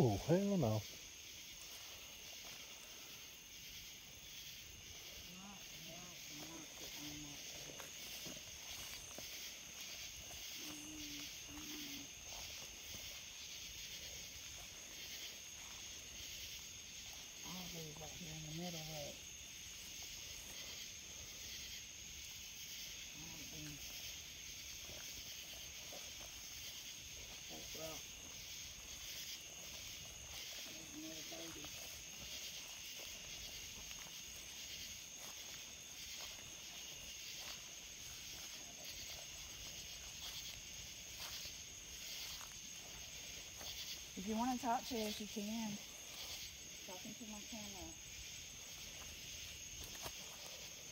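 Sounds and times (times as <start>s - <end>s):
footsteps in grass: 0.0s - 18.3s, 22.9s - 50.9s
night insects chorus: 0.0s - 50.9s.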